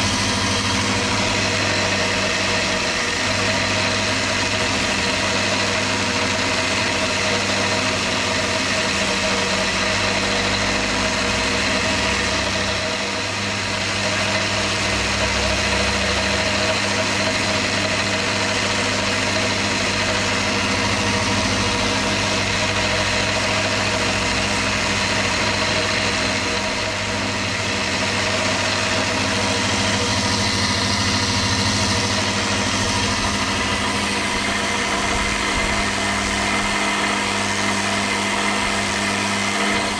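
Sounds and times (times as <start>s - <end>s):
electric sander motor running: 0.0s - 39.9s.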